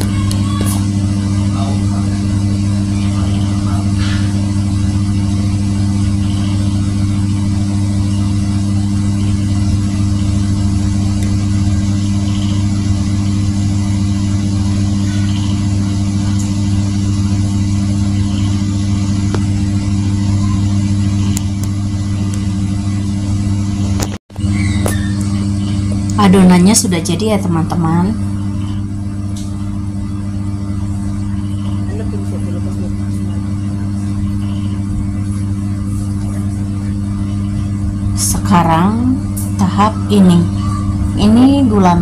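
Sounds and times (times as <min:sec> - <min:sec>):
low motor hum: 0:00.0 - 0:42.0.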